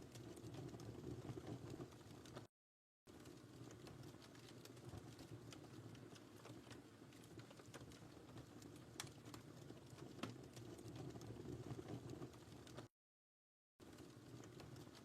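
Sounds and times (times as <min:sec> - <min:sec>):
wood fire crackling: 0:00.0 - 0:02.5, 0:03.1 - 0:12.9, 0:13.8 - 0:15.0.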